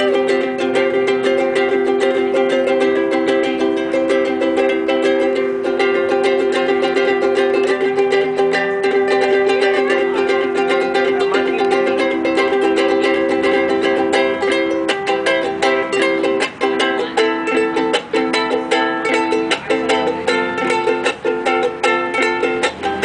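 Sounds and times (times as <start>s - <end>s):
ukulele strumming chords: 0.0s - 23.0s.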